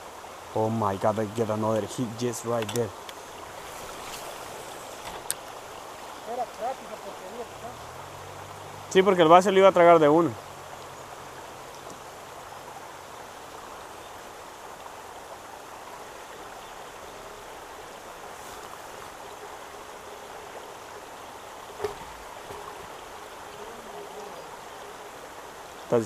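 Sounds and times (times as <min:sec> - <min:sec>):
rain falling on pond: 0:00.0 - 0:26.0.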